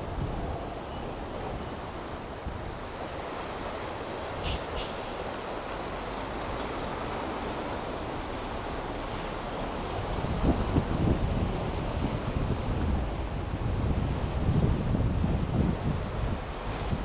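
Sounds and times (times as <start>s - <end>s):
wind buffeting microphone: 0.0s - 4.6s, 5.2s - 17.0s
rough sea breaking: 0.0s - 17.0s
strong wind: 0.0s - 17.0s.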